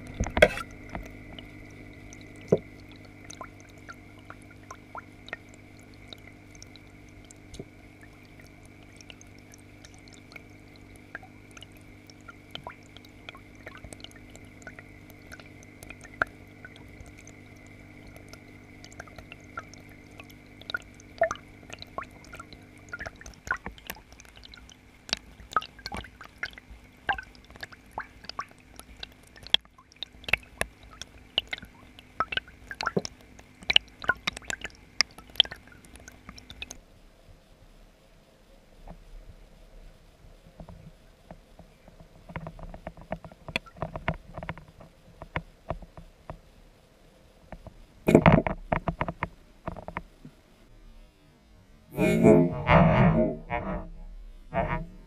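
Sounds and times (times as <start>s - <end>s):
water clicks and drips: 0.0s - 36.8s, 40.6s - 46.5s, 47.5s - 50.1s
filter pump humming underwater: 0.0s - 55.0s.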